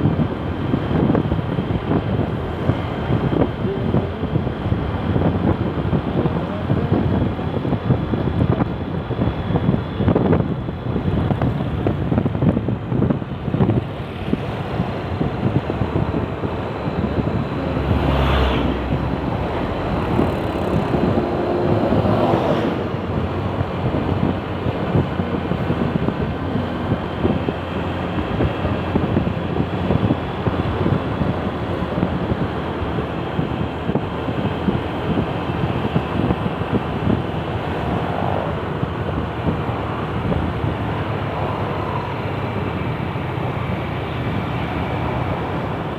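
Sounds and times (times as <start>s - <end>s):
road traffic noise: 0.0s - 45.9s
vehicles passing by: 0.0s - 45.9s
wind buffeting microphone: 0.0s - 45.9s.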